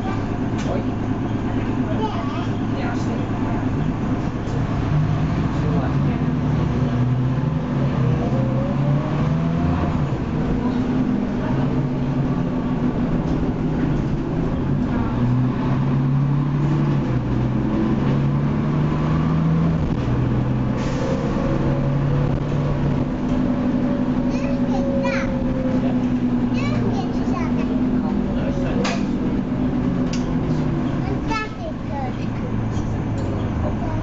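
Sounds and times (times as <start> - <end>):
bus diesel engine running: 0.0 - 34.0.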